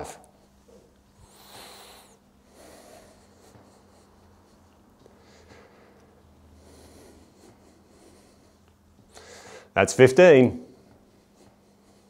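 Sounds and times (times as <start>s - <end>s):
low steady hum: 0.0s - 12.0s
man breathing with effort: 0.5s - 9.8s, 10.6s - 12.0s.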